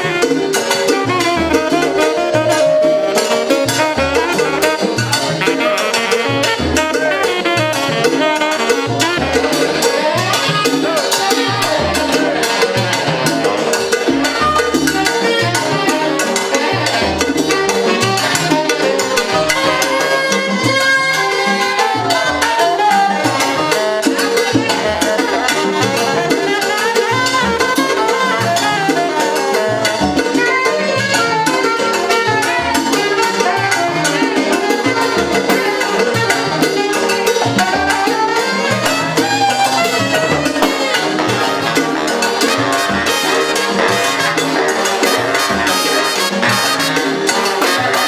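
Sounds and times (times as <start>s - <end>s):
latin percussion: 0.0s - 48.0s
saxophones and trumpets: 0.0s - 48.0s.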